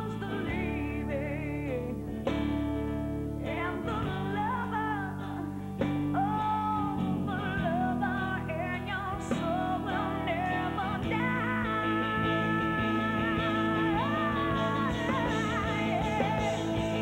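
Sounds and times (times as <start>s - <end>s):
person singing: 0.0s - 2.4s, 3.4s - 17.0s
instrumental backing music: 0.0s - 17.0s.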